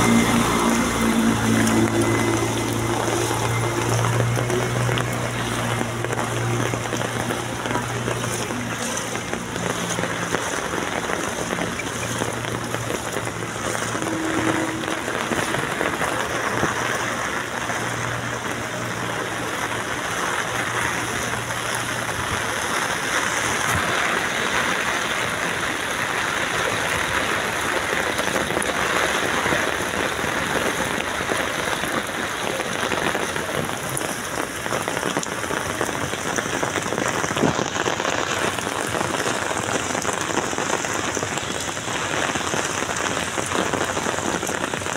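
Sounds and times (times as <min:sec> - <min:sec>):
heavy rain on standing water: 0:00.0 - 0:44.9.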